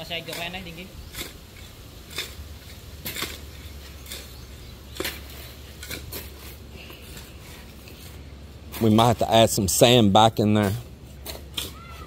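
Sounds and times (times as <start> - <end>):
shovels scraping sand: 0.0 - 12.0.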